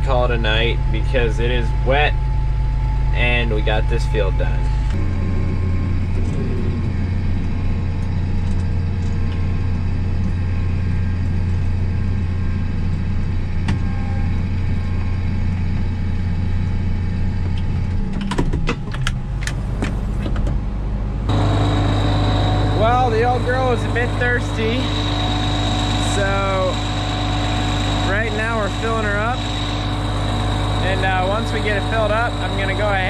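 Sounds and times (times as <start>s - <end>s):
diesel engine drone: 0.0s - 33.0s.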